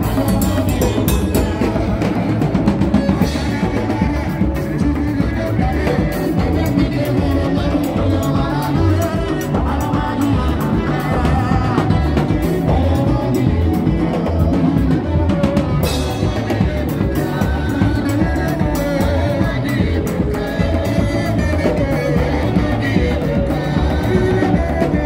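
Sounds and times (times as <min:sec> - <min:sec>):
drums driving beat: 0:00.0 - 0:25.0
live band music: 0:00.0 - 0:25.0.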